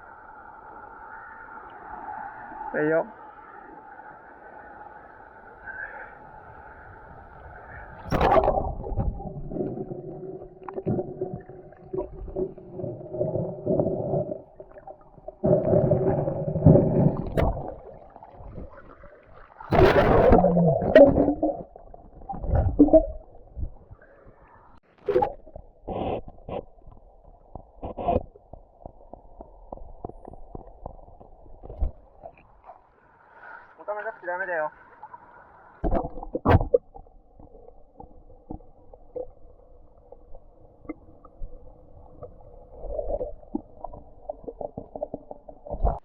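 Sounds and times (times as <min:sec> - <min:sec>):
water splashing and gurgling: 0:07.5 - 0:33.5, 0:35.0 - 0:46.0.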